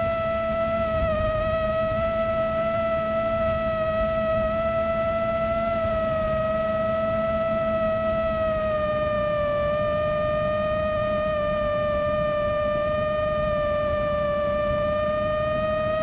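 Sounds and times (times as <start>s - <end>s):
drone motors whining: 0.0s - 16.0s
low wind rush: 0.0s - 16.0s.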